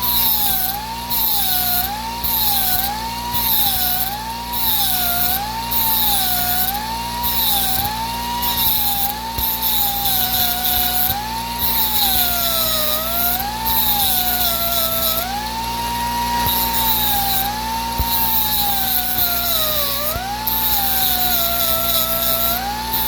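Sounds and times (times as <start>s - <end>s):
die grinder whining: 0.0s - 23.0s
grinding hiss: 0.0s - 23.0s.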